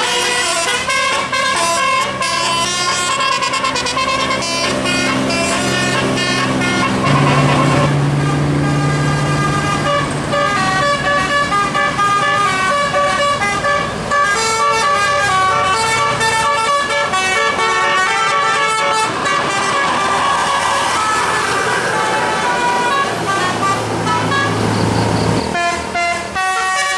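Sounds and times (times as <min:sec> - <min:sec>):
musical air horn tune: 0:00.0 - 0:21.6, 0:22.2 - 0:26.9
vehicle noise: 0:00.0 - 0:26.9.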